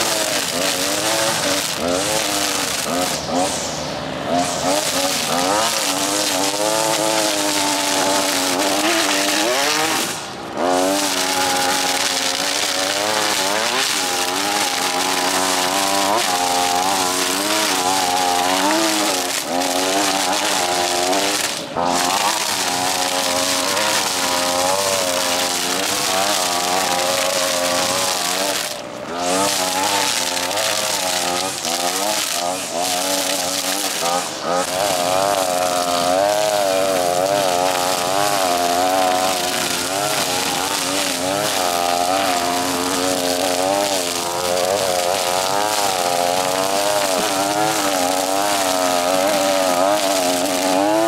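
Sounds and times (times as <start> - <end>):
string trimmer engine cutting grass: 0.0 - 51.0.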